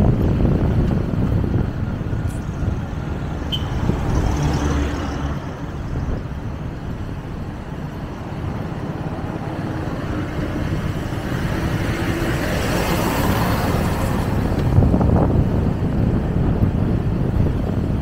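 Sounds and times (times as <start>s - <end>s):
motorcycle engine rumble: 0.0s - 18.0s
road noise: 0.0s - 18.0s
wind noise: 0.0s - 18.0s.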